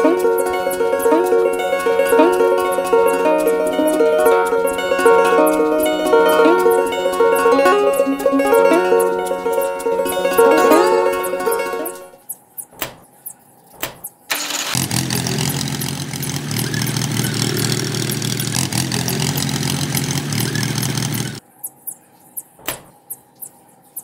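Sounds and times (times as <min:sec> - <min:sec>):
tractor engine running: 0:00.0 - 0:12.2, 0:14.3 - 0:21.4.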